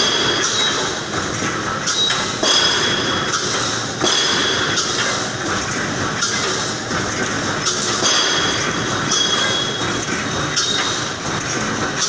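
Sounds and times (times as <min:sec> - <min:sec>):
welding machine clattering: 0:00.0 - 0:12.0.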